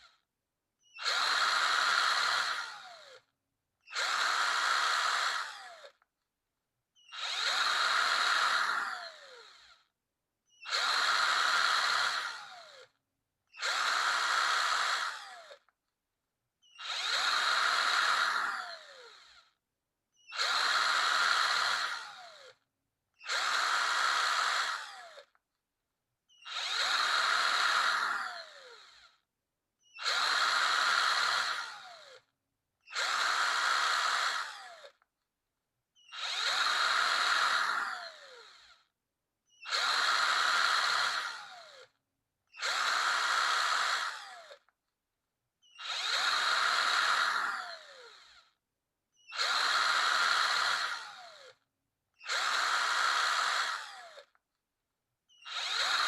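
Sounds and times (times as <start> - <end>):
electric drill spinning up and down: 0.0 - 6.2, 7.0 - 15.8, 16.6 - 25.4, 26.2 - 35.2, 35.9 - 44.8, 45.6 - 54.5, 55.2 - 56.0.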